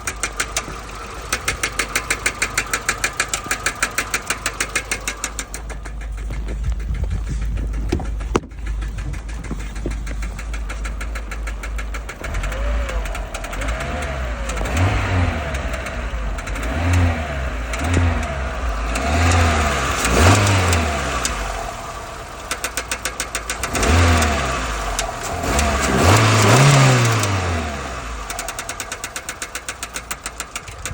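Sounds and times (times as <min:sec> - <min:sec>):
petrol engine ticking and revving: 0:00.0 - 0:30.9.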